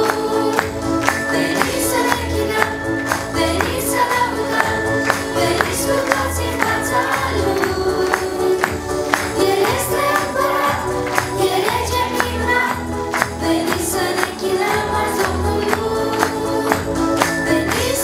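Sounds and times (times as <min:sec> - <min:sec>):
children's choir singing: 0:00.0 - 0:18.0
instrumental accompaniment with beat: 0:00.0 - 0:18.0.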